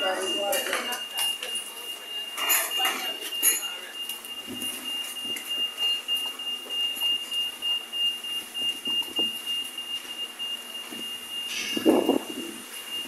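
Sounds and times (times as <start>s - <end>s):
steady high-pitched tone: 0.0s - 13.0s.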